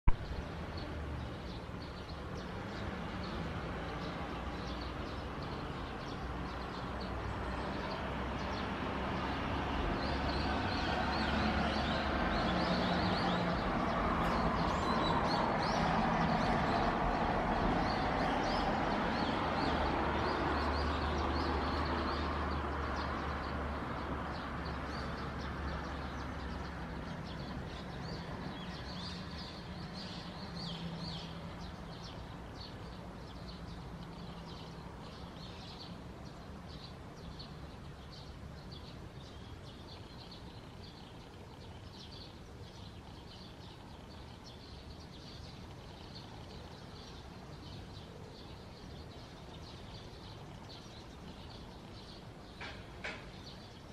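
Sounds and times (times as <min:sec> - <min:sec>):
faint birds chirping: 0:00.1 - 0:53.9.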